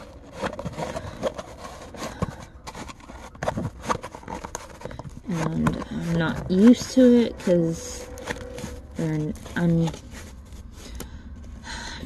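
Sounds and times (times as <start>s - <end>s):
plastic sheet crinkling: 0.0s - 11.0s.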